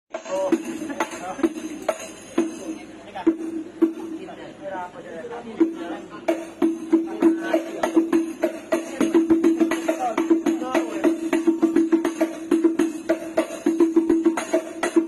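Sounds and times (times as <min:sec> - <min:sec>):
frame drums played fast: 0:00.1 - 0:04.6, 0:05.3 - 0:15.0.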